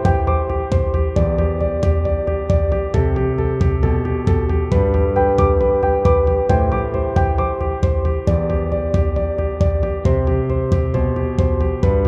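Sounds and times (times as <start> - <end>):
keyboard chords: 0.0 - 12.0
quick percussion beat: 0.0 - 12.0.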